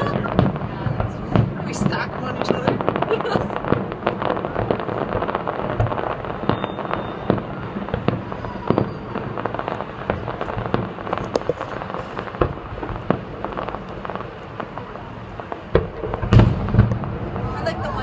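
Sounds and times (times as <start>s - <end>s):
distant fireworks bangs and crackling: 0.0s - 18.0s.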